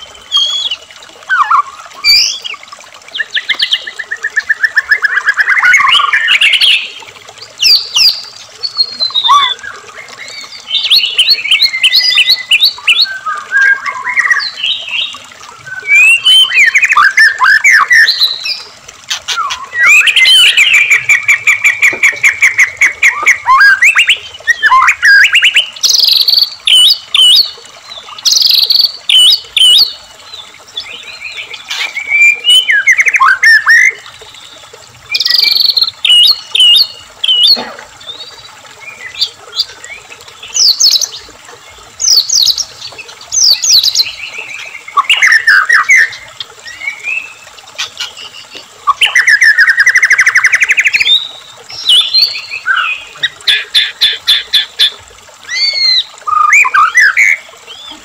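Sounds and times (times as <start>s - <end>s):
bird singing whistles and trills: 0.0s - 7.0s, 7.6s - 27.6s, 30.8s - 34.0s, 35.1s - 41.2s, 43.4s - 47.4s, 48.0s - 53.4s, 55.5s - 58.0s.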